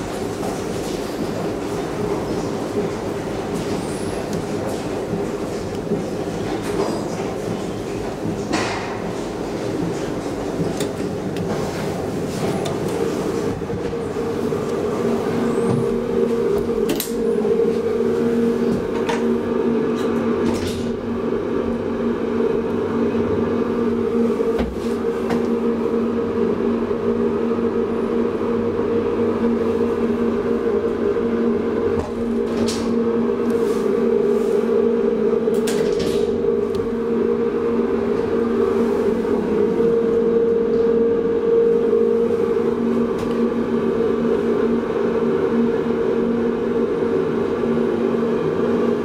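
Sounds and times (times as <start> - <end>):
elevator hum with steady tones: 0.0 - 49.0.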